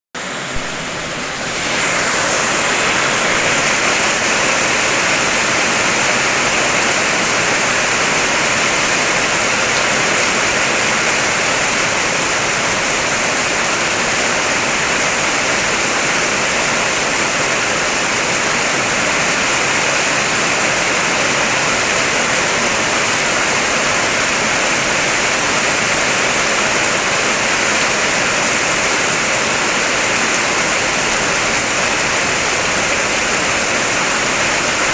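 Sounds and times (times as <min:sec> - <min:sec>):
heavy rain drumming on a car: 0:00.2 - 0:34.9.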